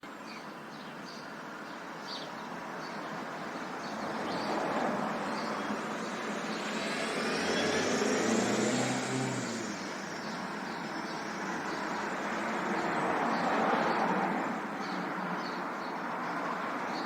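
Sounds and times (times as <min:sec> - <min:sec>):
passing cars road noise: 0:02.5 - 0:17.0.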